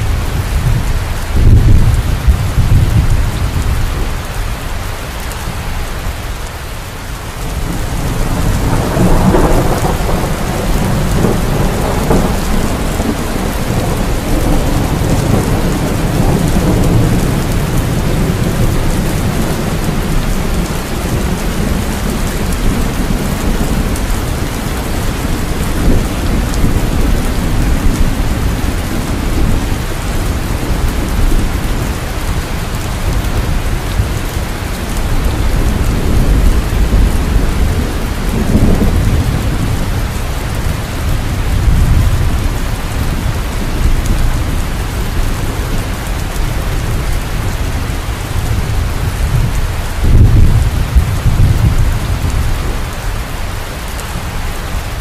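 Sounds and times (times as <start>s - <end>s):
thunder rumbling: 0.0s - 4.4s, 7.3s - 55.0s
heavy rain: 0.0s - 55.0s.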